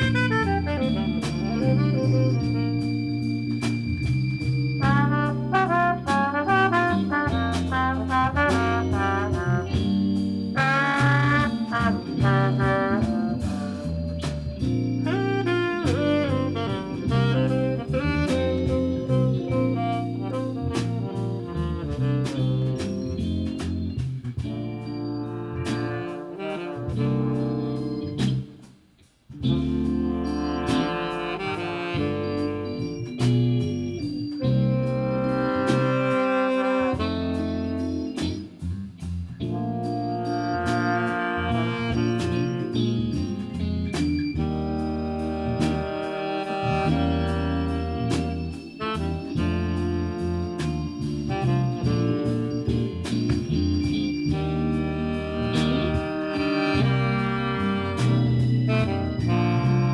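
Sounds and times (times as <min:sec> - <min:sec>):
trumpets and trombones: 0:00.0 - 0:28.7, 0:29.4 - 0:59.9
drums: 0:00.0 - 0:59.9
military band playing jazzy music: 0:00.0 - 0:59.9
walking bass: 0:00.0 - 0:59.9.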